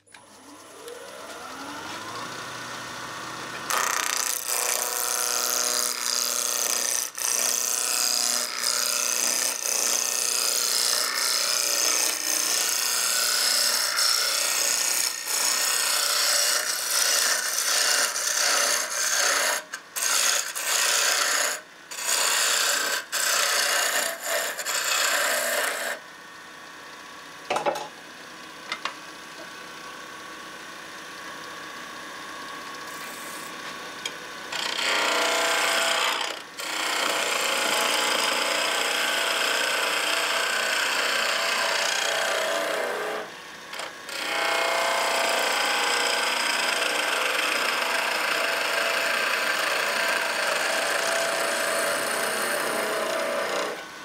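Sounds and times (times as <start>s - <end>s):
lathe tool cutting wood: 0.2s - 26.0s, 31.9s - 53.9s
wood lathe running: 0.2s - 26.0s, 31.4s - 53.9s.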